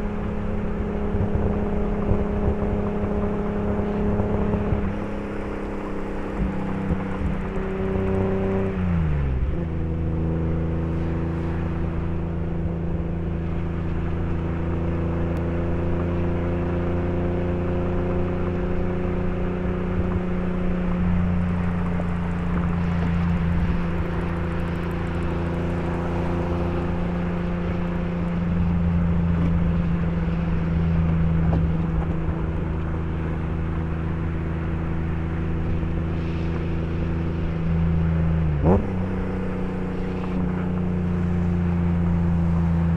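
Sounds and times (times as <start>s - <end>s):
car engine droning: 0.0s - 42.9s.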